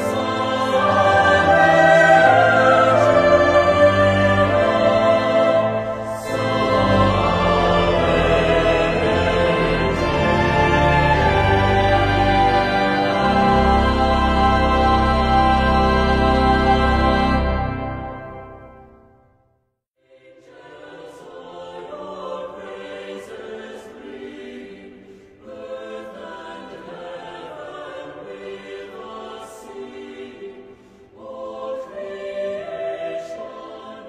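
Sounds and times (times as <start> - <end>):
choir singing a slow hymn: 0.0 - 18.4, 20.0 - 34.0
music: 0.0 - 34.0.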